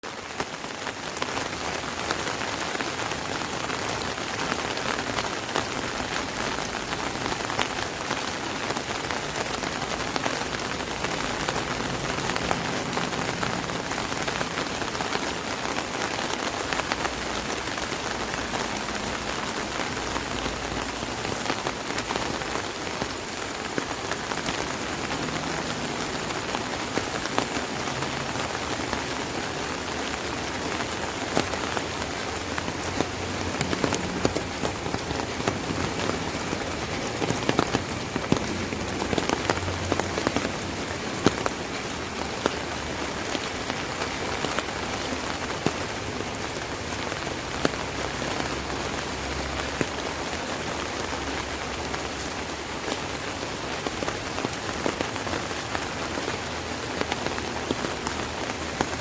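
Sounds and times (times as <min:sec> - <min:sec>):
rain on an umbrella: 0:00.0 - 0:59.0.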